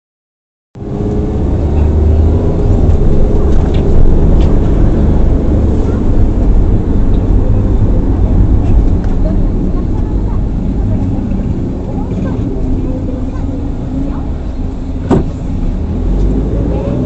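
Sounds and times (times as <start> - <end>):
car engine and road noise: 0.8 - 17.0.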